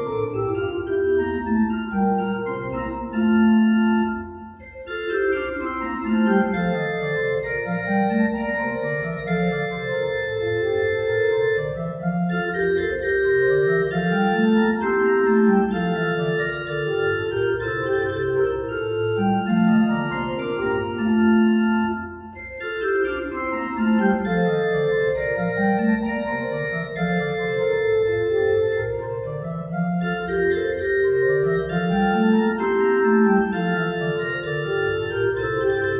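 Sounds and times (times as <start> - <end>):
church organ chords: 0.0 - 35.9.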